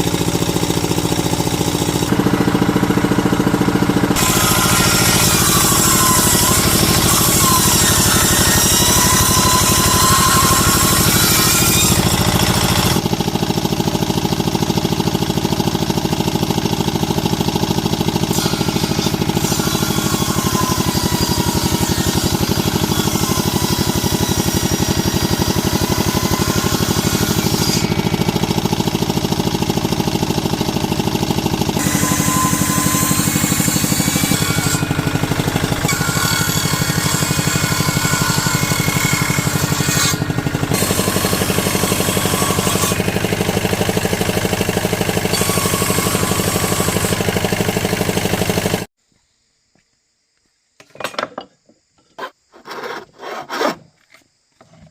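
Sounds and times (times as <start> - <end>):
power tool motor pulsing: 0.0 - 48.9.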